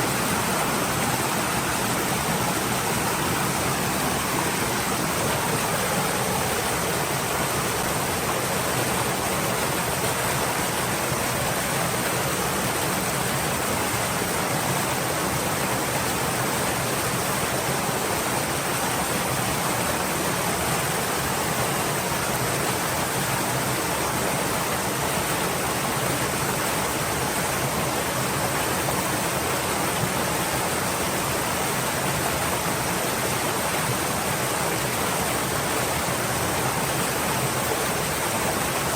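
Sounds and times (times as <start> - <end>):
small stream flowing: 0.0 - 38.9.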